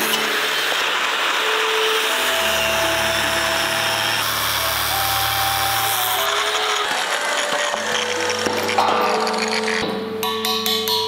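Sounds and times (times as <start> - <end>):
angle grinder cutting metal: 0.0 - 9.8.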